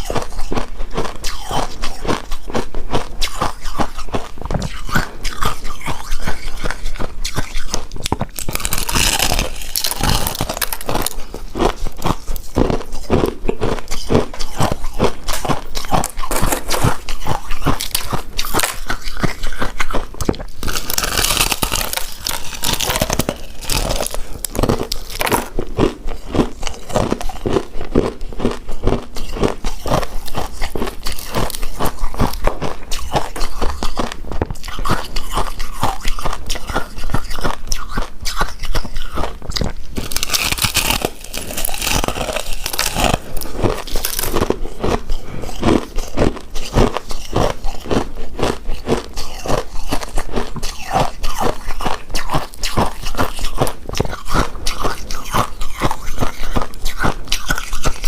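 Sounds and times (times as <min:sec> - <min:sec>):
sticky chewing mouth clicks: 0:00.0 - 0:58.0.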